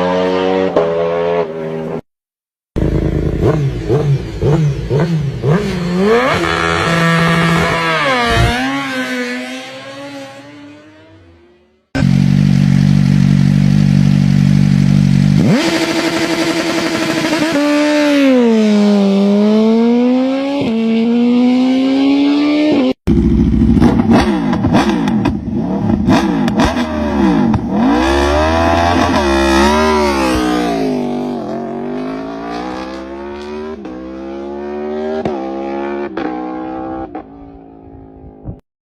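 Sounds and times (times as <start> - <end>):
several engines revving: 2.8 - 13.8, 14.7 - 37.3
motorcycle engine idling and revving: 2.8 - 38.6.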